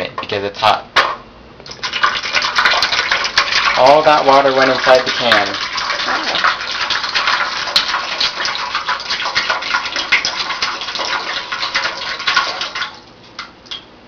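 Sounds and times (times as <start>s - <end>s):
water pouring into metal pan: 1.7s - 13.5s.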